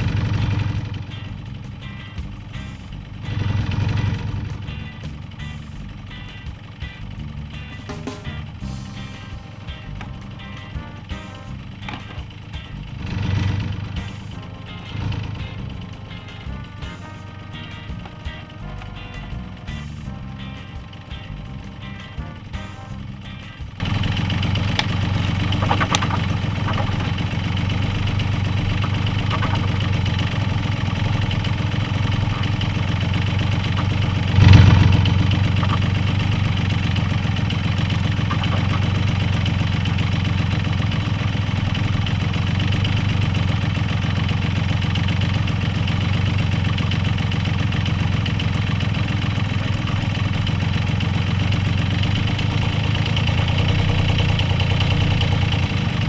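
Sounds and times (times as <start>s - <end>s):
engine idling: 0.0s - 56.0s
engine revving: 0.0s - 56.0s.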